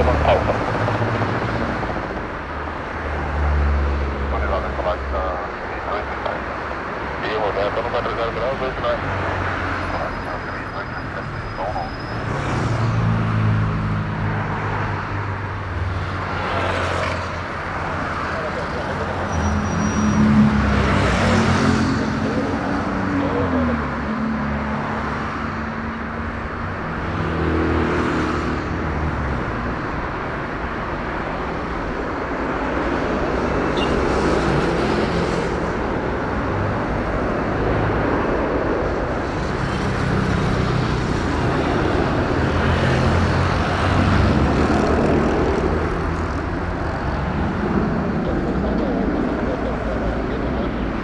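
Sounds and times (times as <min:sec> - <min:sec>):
engines and traffic rumble: 0:00.0 - 0:51.0.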